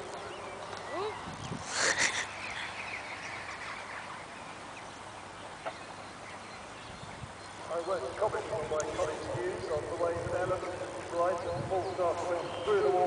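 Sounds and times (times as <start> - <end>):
outdoor background hiss: 0.0 - 13.0
small birds chirping faintly: 0.0 - 13.0.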